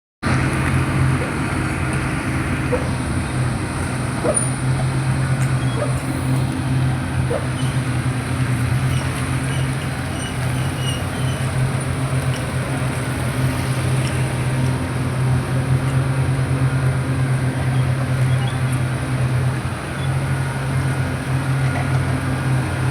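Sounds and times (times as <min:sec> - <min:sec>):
diesel engine humming: 0:00.2 - 0:22.9.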